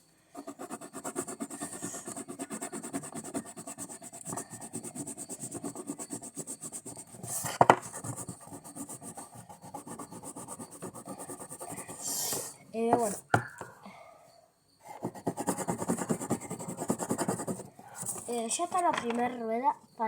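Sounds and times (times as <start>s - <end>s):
pencil scratching on paper: 0.4s - 13.4s, 14.8s - 18.7s.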